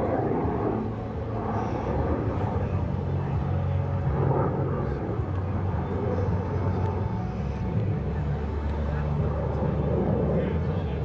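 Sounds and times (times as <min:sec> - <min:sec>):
aircraft engines droning: 0:00.0 - 0:11.0.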